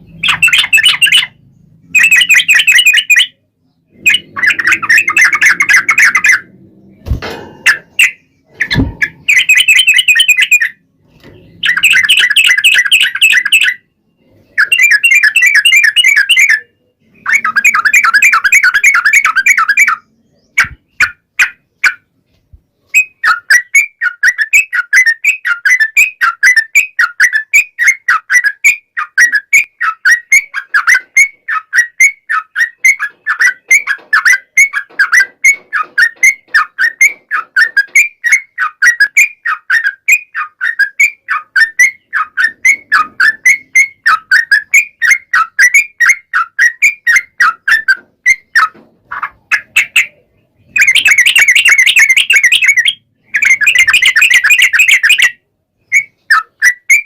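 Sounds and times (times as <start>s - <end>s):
bird chattering trills: 0.0s - 6.6s, 7.6s - 10.8s, 11.4s - 13.8s, 14.4s - 22.0s, 28.1s - 57.0s.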